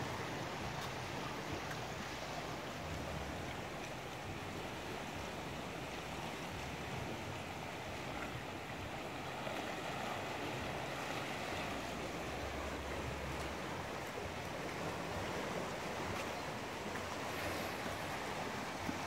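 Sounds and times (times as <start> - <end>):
sea waves washing among rocks: 0.0 - 19.0.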